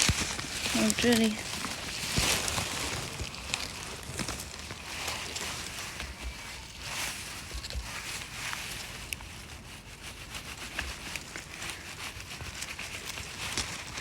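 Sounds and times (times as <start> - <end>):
rustling of forest-floor litter: 0.0 - 14.0.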